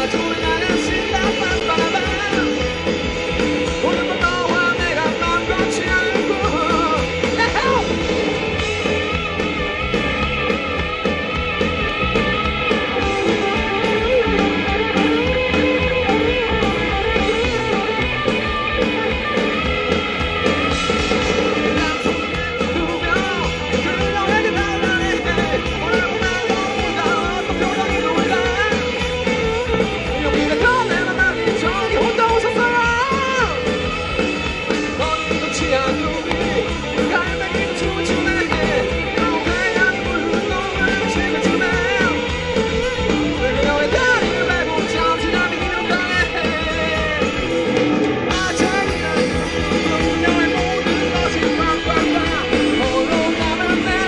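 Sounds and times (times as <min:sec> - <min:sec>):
drum kit rock beat: 0:00.0 - 0:54.0
electric guitars: 0:00.0 - 0:54.0.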